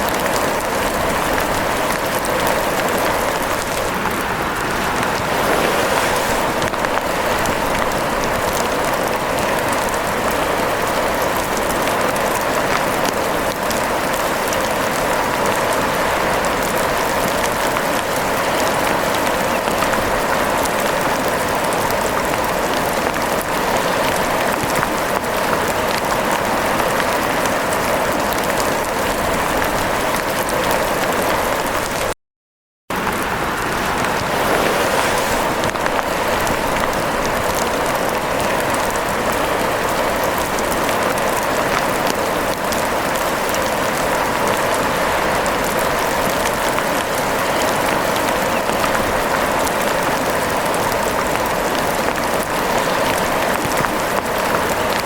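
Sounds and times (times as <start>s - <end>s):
rain falling: 0.0s - 32.2s, 32.9s - 55.0s.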